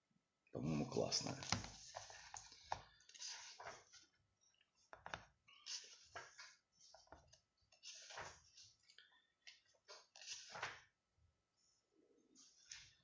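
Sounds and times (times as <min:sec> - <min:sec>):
book pages rustling: 0:01.0 - 0:11.0, 0:12.3 - 0:13.0.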